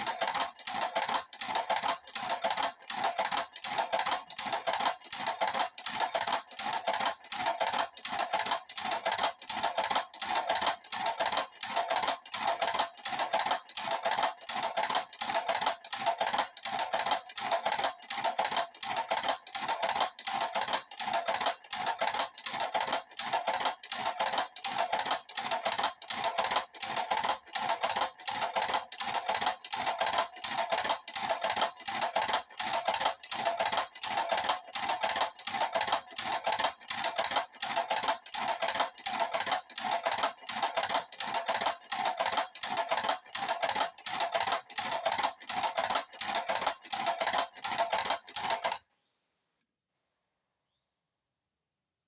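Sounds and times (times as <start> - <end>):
motor with rapid clicking clatter: 0.0 - 48.9.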